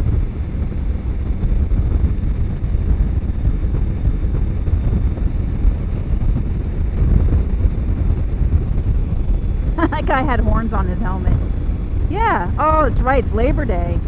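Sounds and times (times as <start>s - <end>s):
motorcycle riding at speed: 0.0s - 14.0s
wind buffeting microphone: 0.0s - 14.0s.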